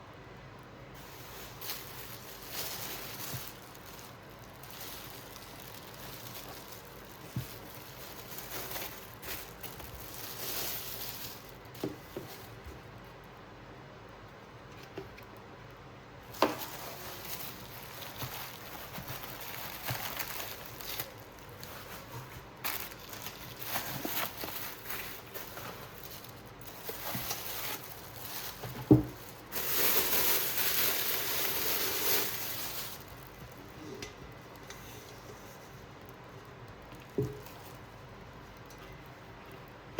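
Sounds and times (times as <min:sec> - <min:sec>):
packaging rustling and crinkling: 0:00.9 - 0:13.0, 0:16.2 - 0:39.8.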